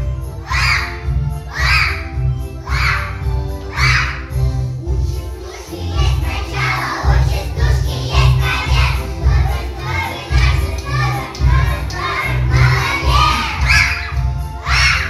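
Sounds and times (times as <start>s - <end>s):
children singing loudly: 0.4s - 4.4s, 5.4s - 15.0s.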